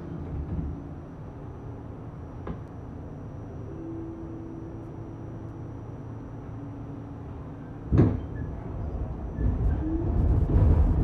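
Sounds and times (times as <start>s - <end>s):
subway car rumble: 0.0s - 11.0s.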